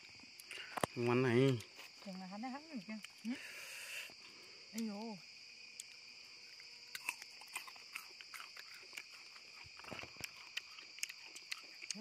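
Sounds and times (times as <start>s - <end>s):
people chewing: 0.0s - 2.1s, 3.0s - 5.1s, 5.7s - 12.0s
forest insects chirring: 0.0s - 12.0s.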